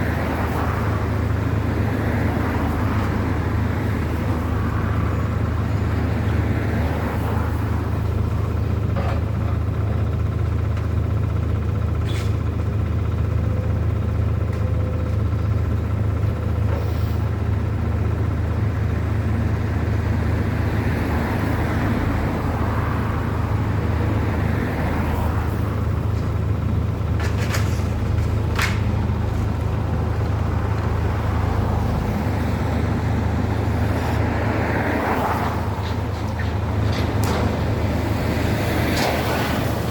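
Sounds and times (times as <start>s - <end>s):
engines rumbling: 0.0s - 39.9s.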